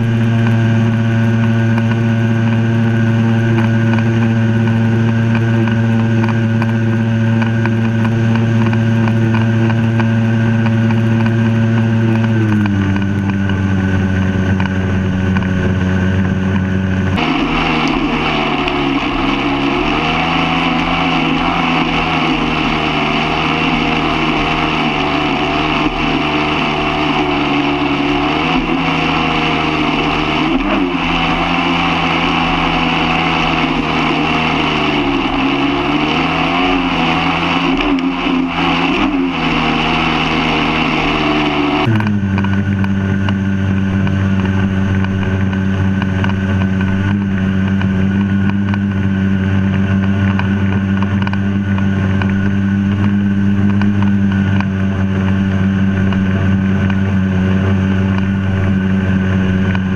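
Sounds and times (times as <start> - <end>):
watercraft engine running: 0.0 - 59.9
wind: 0.0 - 59.9.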